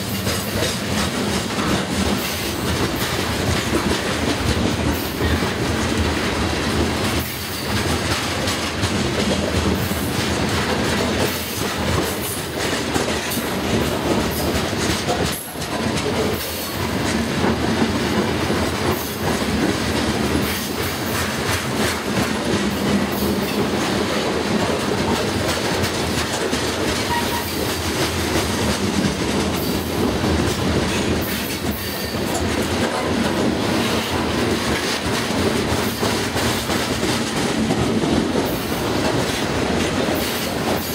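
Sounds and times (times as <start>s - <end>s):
train wheels rumbling on rails: 0.0s - 40.9s
wheels clicking over track: 0.0s - 40.9s.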